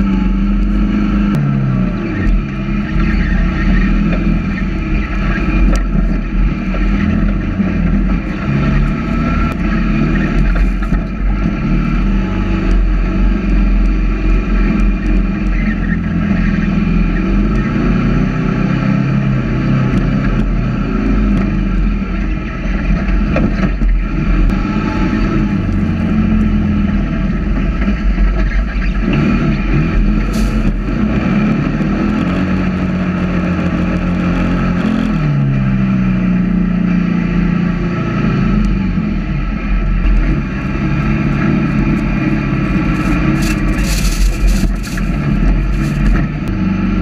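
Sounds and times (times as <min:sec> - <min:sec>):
off-road buggy engine droning: 0:00.0 - 0:47.0.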